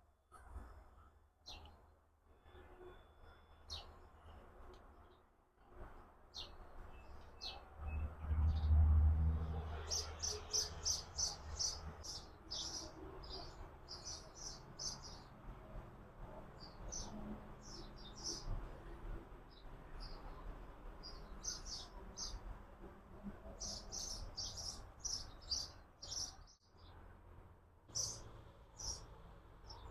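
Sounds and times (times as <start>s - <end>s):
small birds chirping: 0.3s - 1.8s, 2.4s - 5.3s, 6.3s - 8.8s, 9.7s - 15.6s, 16.3s - 18.8s, 19.4s - 22.6s, 23.5s - 27.1s, 27.9s - 29.9s.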